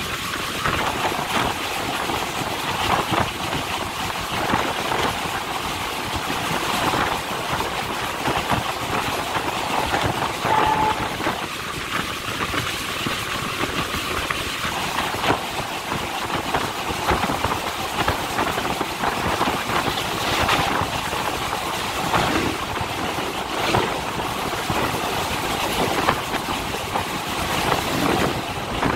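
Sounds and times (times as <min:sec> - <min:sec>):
rushing air: 0:00.0 - 0:28.9
train rattling and rumbling on track: 0:00.0 - 0:28.9
wheels clicking over rail joints: 0:00.0 - 0:28.9.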